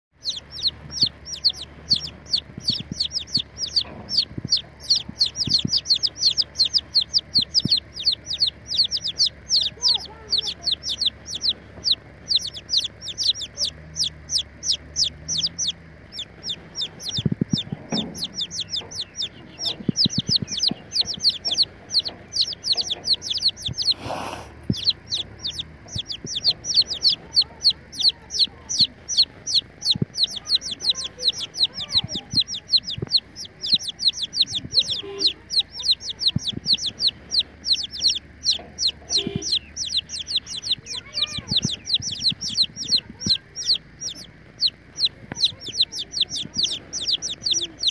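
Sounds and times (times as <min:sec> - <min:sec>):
chicks peeping: 0:00.2 - 0:47.9.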